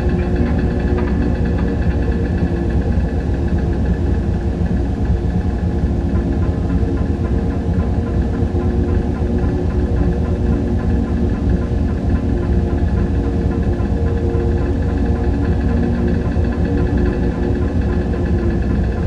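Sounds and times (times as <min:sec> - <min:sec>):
held drone tones: 0:00.0 - 0:19.0
low machine hum: 0:00.0 - 0:19.0.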